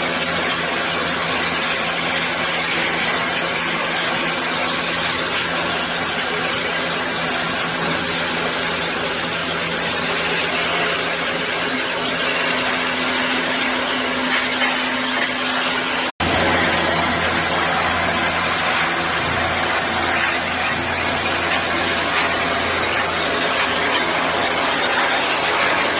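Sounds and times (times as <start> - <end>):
motor hum: 0.0 - 25.9.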